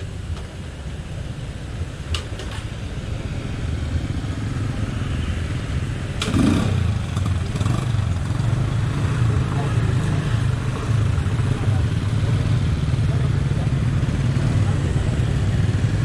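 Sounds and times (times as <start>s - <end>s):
motorbike and scooter engines: 0.0s - 16.0s.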